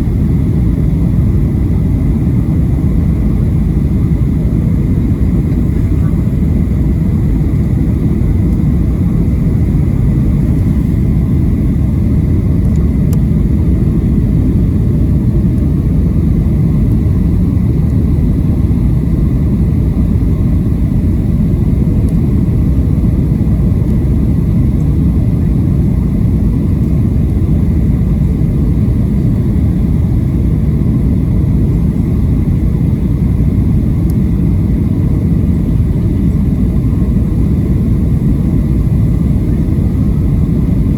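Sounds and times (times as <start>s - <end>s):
jet engine and airflow roar: 0.0s - 40.9s.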